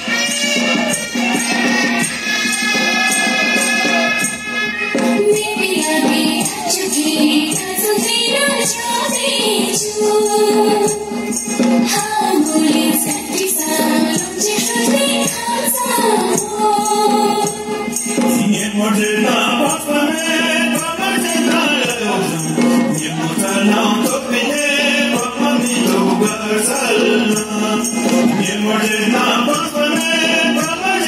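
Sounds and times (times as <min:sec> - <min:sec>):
steady percussion beat: 0:00.0 - 0:31.0
voices singing together: 0:05.2 - 0:31.0.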